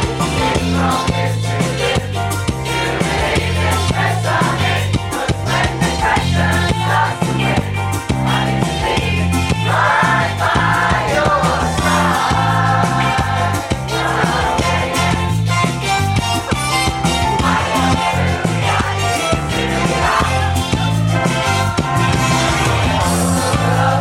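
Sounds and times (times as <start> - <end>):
bass and drum beat: 0.0 - 24.0
group of voices singing: 0.0 - 24.0.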